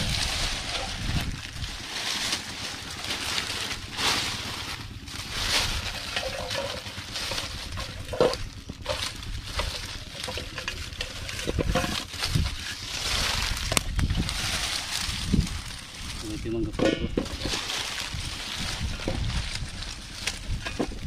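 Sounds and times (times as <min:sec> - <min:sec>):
wind rumbling on microphone: 0:00.0 - 0:06.2, 0:07.0 - 0:21.0
hands rustling dry leaves: 0:00.0 - 0:21.0.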